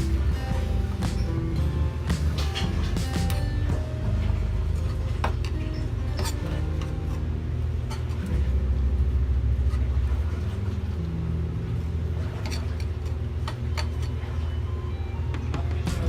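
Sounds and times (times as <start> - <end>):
background music with deep bass: 0.0 - 12.4, 14.7 - 16.0.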